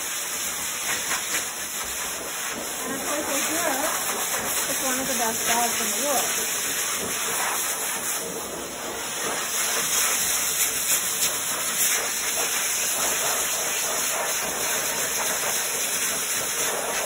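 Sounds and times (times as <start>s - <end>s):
dryer blowing air hiss: 0.0s - 17.0s.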